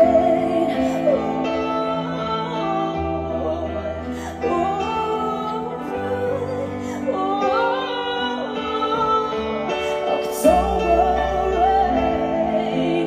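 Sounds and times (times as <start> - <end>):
pop ballad music: 0.0 - 13.0
woman singing wordless line: 0.0 - 13.0.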